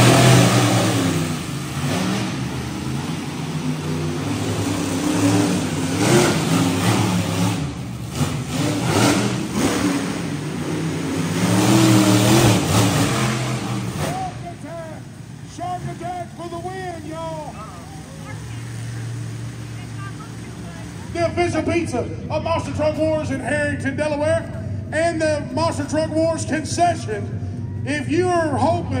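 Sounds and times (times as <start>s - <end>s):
monster truck engines revving: 0.0s - 29.0s.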